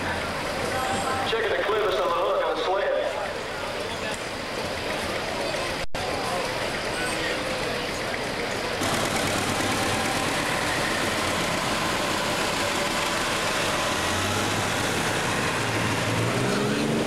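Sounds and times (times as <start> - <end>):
loud diesel engine running: 0.0 - 17.0.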